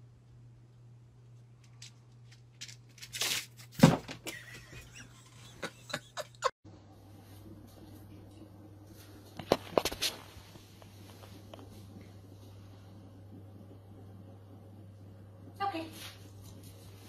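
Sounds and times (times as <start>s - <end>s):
steady low hum: 0.0s - 3.1s, 4.2s - 17.0s.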